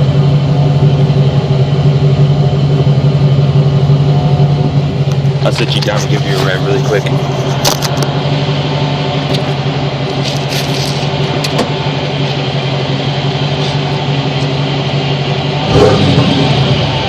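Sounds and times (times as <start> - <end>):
engine idling with throttle blip: 0.0 - 17.0.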